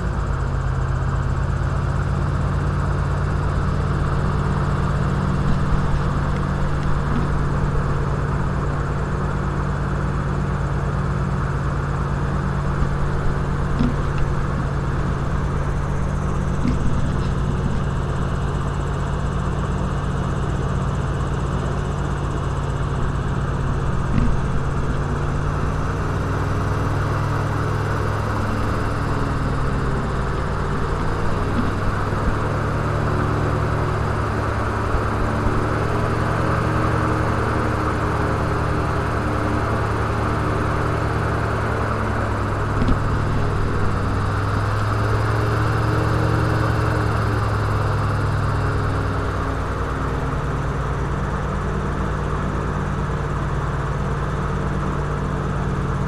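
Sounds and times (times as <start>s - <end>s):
airboat engine and propeller drone: 0.0s - 56.0s.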